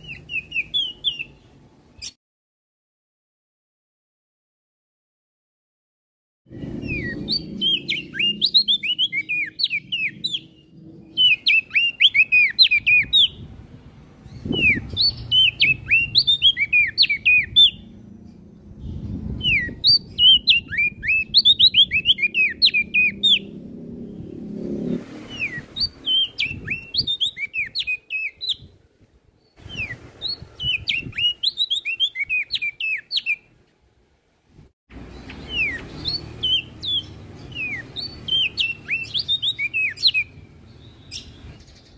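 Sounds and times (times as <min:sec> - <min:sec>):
songbird chirping: 0:00.0 - 0:02.2, 0:06.5 - 0:33.9, 0:34.9 - 0:41.9.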